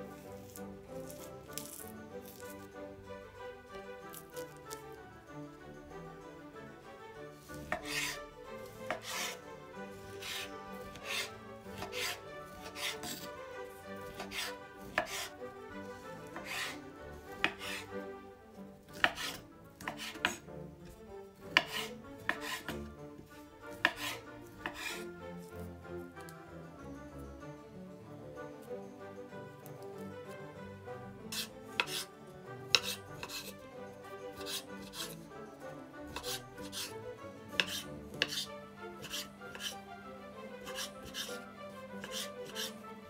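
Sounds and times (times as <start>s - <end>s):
soft background music: 0.0s - 43.0s.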